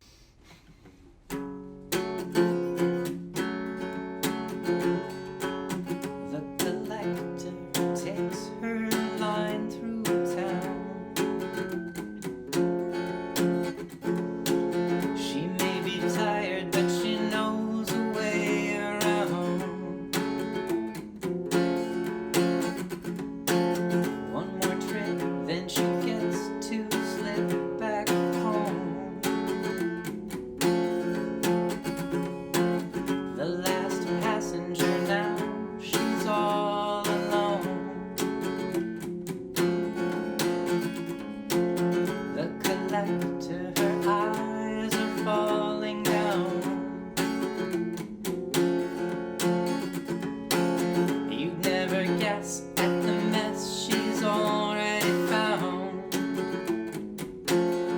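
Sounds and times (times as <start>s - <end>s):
acoustic guitar strumming: 1.0s - 57.9s.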